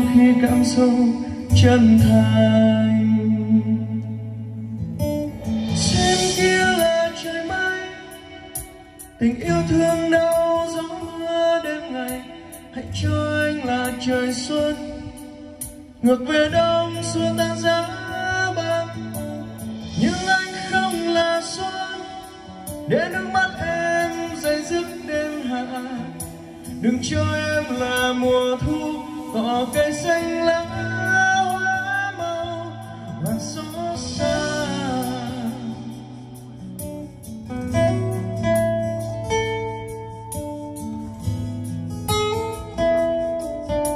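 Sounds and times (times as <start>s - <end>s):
man singing pop song: 0.0s - 40.1s
backing track with drum beat: 0.0s - 43.9s
guitar-led music: 0.0s - 43.9s.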